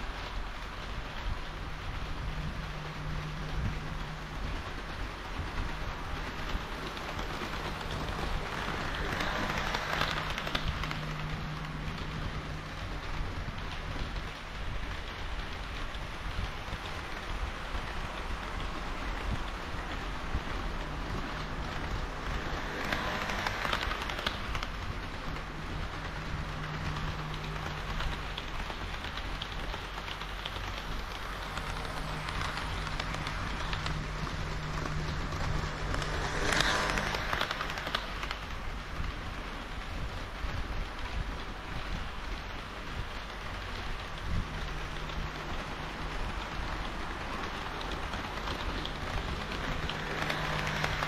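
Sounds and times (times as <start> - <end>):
model train whirring rumble: 0.0 - 51.0
wheels clicking over rail joints: 0.0 - 51.0.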